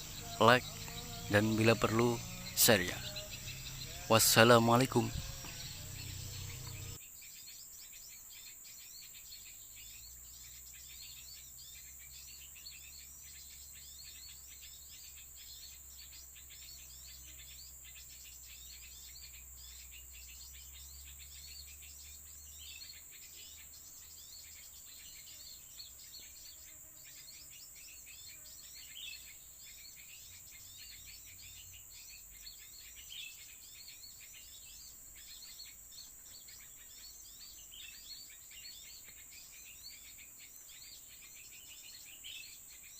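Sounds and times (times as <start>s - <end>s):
high insect buzz: 0.0s - 42.9s
small birds chirping: 0.0s - 42.9s.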